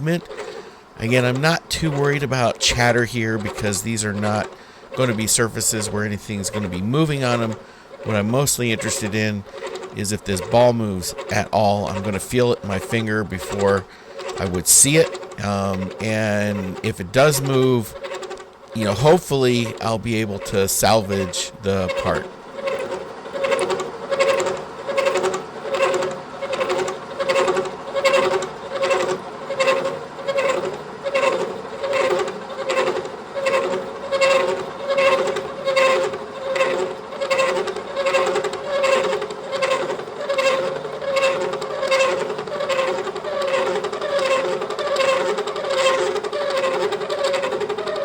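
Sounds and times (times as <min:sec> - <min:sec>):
milling cutter chattering: 0:00.0 - 0:48.0.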